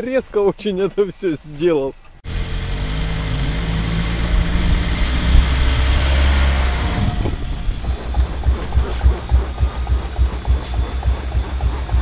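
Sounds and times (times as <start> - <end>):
car engine running: 2.2 - 12.0.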